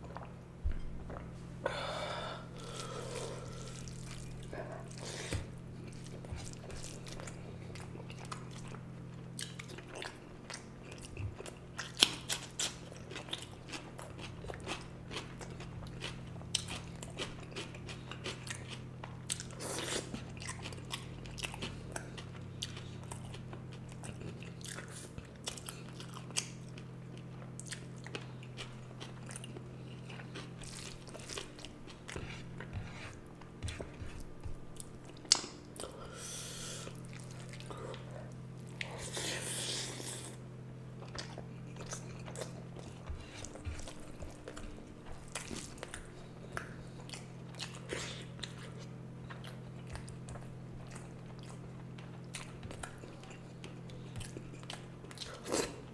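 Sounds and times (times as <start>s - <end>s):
person chewing and smacking: 0.0s - 1.3s, 2.6s - 55.9s
steady low hum: 0.0s - 55.9s.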